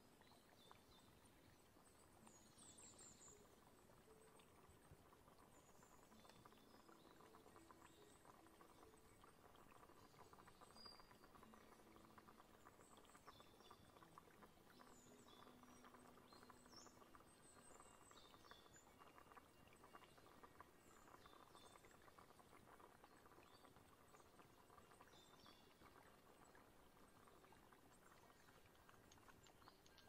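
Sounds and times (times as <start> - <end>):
soft ticking: 0.0 - 30.0.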